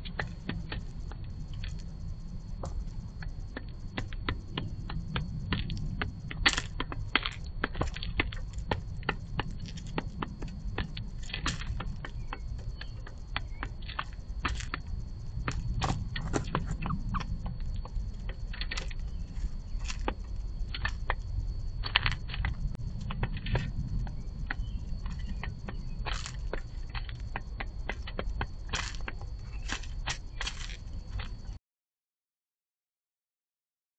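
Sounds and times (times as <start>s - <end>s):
birds pecking seed: 0.0s - 31.6s
steady low rumble: 0.0s - 31.6s.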